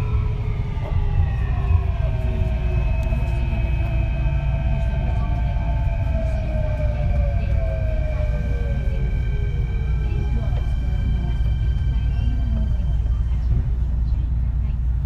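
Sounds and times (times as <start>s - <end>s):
train inverter whining: 0.0s - 14.8s
train running gear rumble: 0.0s - 15.0s.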